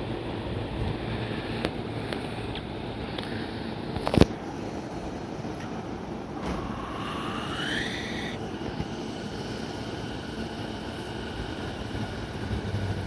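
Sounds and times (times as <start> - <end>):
electric train rumble: 0.0 - 13.0
inverter motor whine: 0.0 - 13.0.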